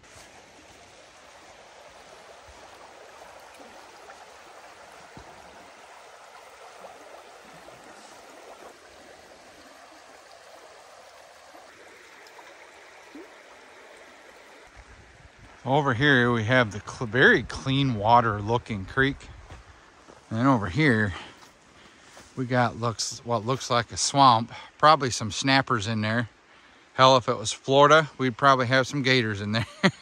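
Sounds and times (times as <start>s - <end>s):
creek flowing: 0.0s - 29.6s.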